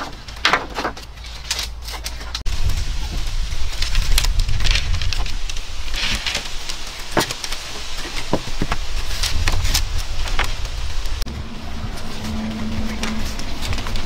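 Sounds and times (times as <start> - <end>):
bamboo slats knocking and rustling: 0.0 - 14.0
steady low rumble: 2.2 - 14.0.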